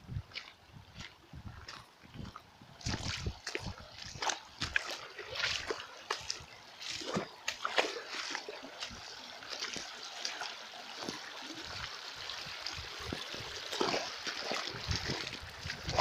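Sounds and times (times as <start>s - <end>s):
running water splashing: 2.8s - 16.0s.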